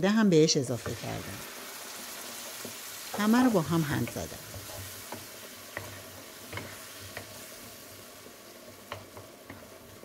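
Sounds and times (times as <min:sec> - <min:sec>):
vegetables sizzling in frying pan: 0:00.6 - 0:10.0.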